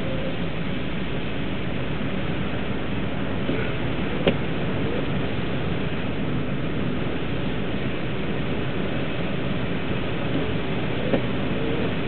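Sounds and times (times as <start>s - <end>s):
car engine noise: 0.0s - 12.0s
tyres hissing on wet road: 0.0s - 12.0s.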